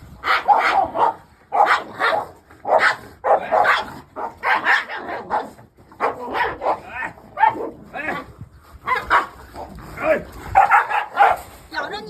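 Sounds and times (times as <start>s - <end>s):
large dog barking: 0.2s - 11.5s.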